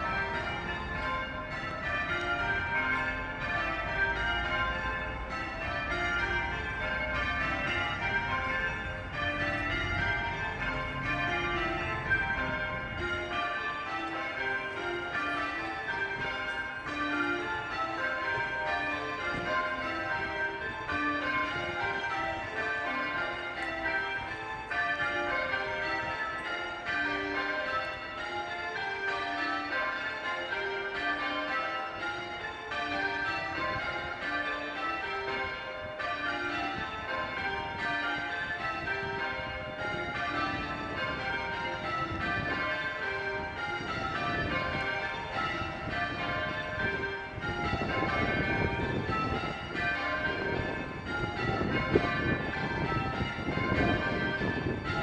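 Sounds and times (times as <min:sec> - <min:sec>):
church bells change ringing: 0:00.0 - 0:55.0.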